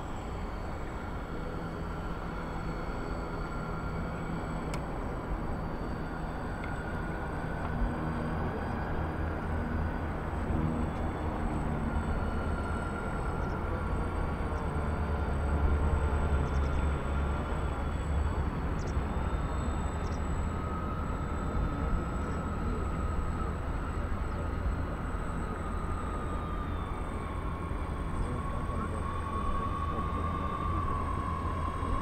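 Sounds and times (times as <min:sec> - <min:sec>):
model plane propellers whining: 0:00.0 - 0:32.0.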